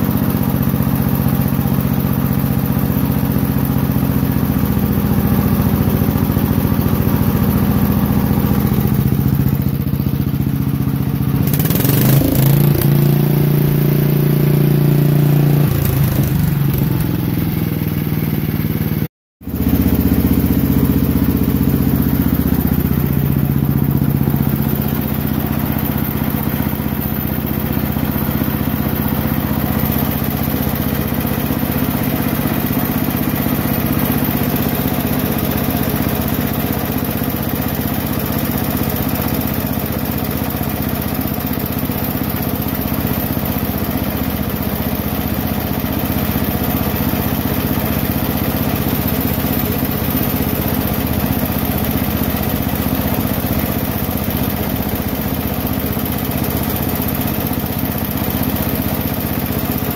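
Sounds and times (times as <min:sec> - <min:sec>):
single-cylinder engine running: 0:00.0 - 0:59.9.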